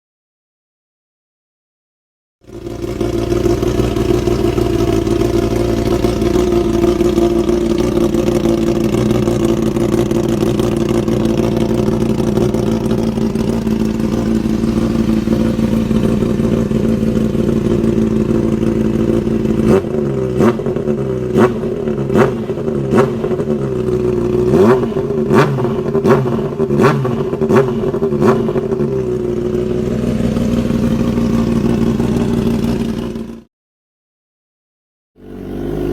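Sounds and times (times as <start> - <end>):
motorcycle throttle blips: 2.5 - 33.3
motorcycle engine idling: 2.5 - 33.5.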